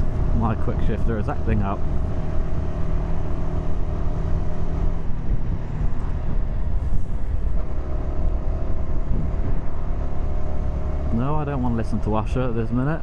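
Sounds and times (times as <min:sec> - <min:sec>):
motorcycle engine running: 0:00.0 - 0:12.1
wind rumble: 0:00.0 - 0:13.0.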